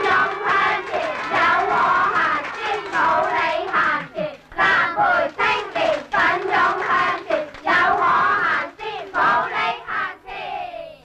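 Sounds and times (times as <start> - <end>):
young voices chanting: 0.0 - 11.0.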